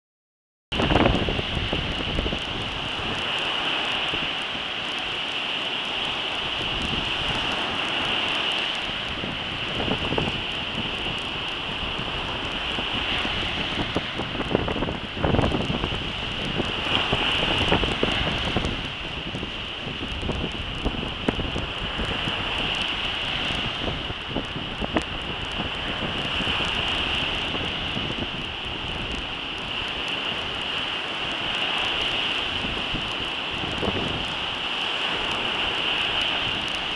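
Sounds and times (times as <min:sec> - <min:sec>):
wind buffeting microphone: 0:00.7 - 0:36.9
breaking surf: 0:00.8 - 0:36.9.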